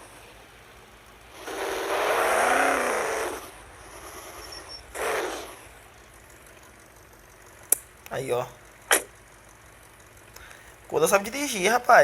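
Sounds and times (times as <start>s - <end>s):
vehicle engine: 0.0s - 11.8s.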